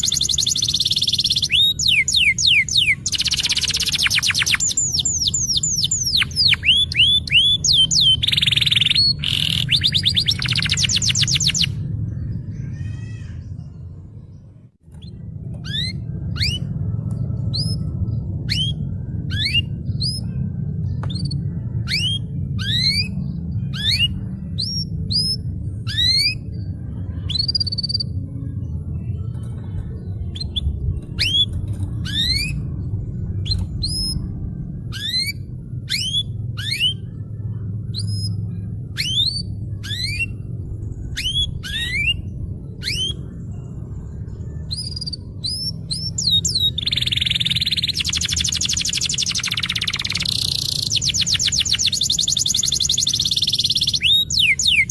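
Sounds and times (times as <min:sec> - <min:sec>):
canary singing: 0:00.0 - 0:29.6, 0:30.2 - 0:54.9
steady low hum: 0:00.0 - 0:54.9.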